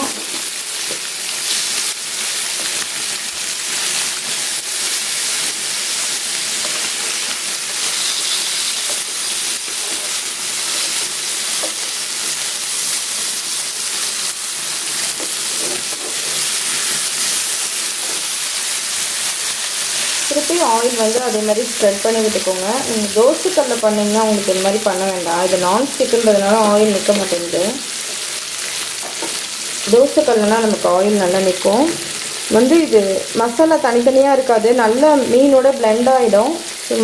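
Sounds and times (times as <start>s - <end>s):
fish sizzling in hot oil: 0.0s - 37.0s.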